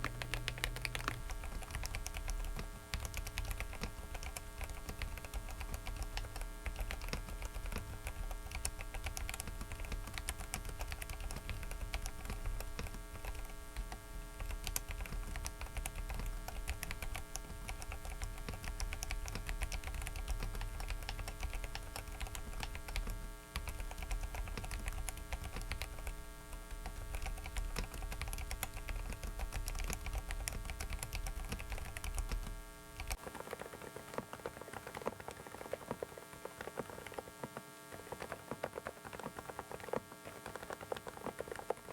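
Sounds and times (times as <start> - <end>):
electrical hum: 0.0 - 41.9
mechanical keyboard typing: 0.0 - 41.9.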